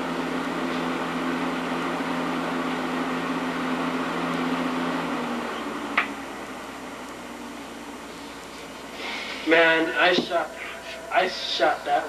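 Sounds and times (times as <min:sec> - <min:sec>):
machine hum with airy hiss: 0:00.0 - 0:12.0.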